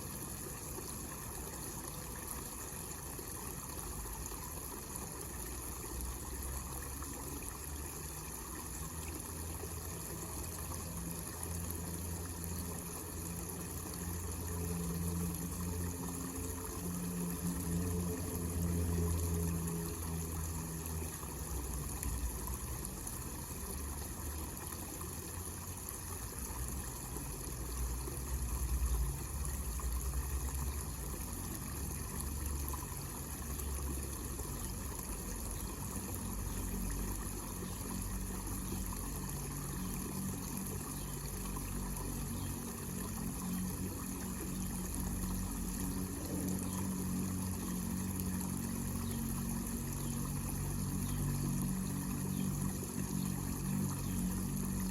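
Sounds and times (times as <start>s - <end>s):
water trickling and splashing: 0.0s - 54.9s.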